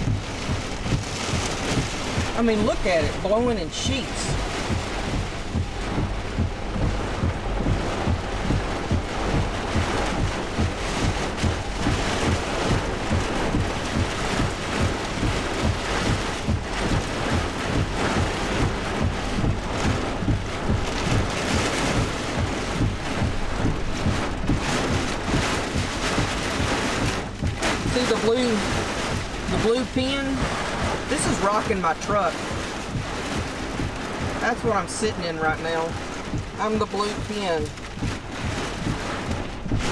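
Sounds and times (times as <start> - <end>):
wind gusts buffeting microphone: 0.0 - 34.8, 35.6 - 39.9
heavy rain pelting a truck: 0.0 - 39.9.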